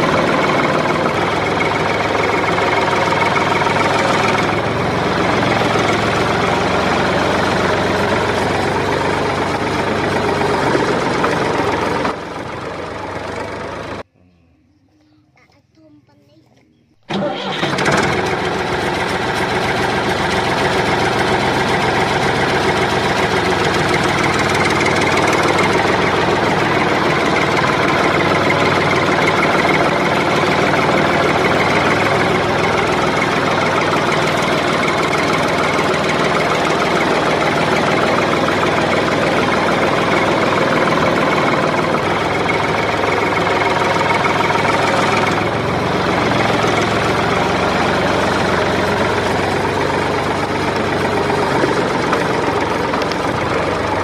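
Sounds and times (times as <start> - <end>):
heavy engine idling: 0.0 - 14.0, 17.1 - 54.0.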